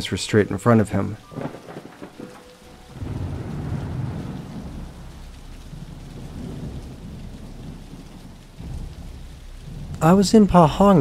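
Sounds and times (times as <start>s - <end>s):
steady rain: 0.0s - 11.0s
rolling thunder: 1.2s - 11.0s.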